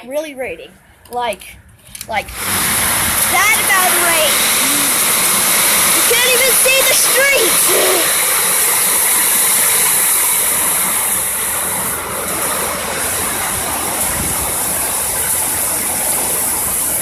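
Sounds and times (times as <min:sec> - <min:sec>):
heavy rain pouring: 0:02.2 - 0:17.0.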